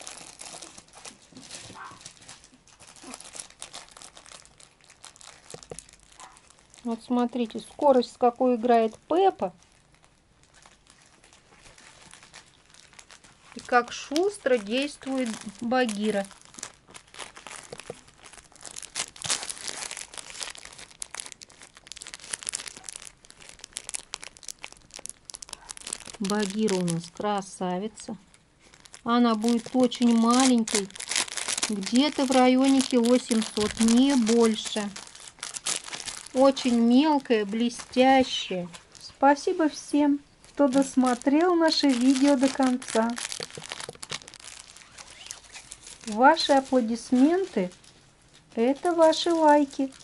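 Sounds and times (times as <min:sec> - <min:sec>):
puppy chewing crinkly toy: 0:00.0 - 0:27.5, 0:28.4 - 0:39.7, 0:40.4 - 0:50.0
plastic snack packet crackling: 0:00.0 - 0:50.0.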